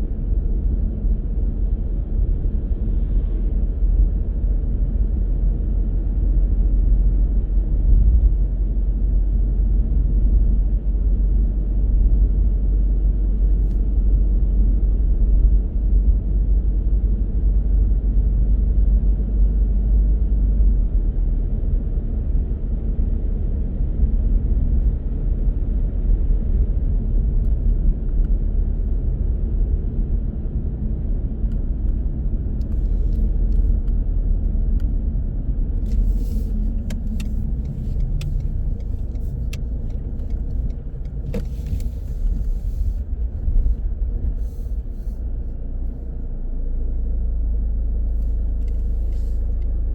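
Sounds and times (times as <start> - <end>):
car driving on road: 0.0 - 49.9.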